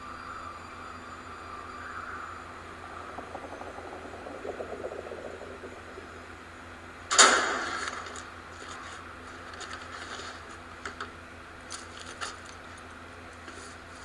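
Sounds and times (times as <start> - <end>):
faint clicks and crackles: 0.0 - 14.0
steady low hum: 0.0 - 14.0.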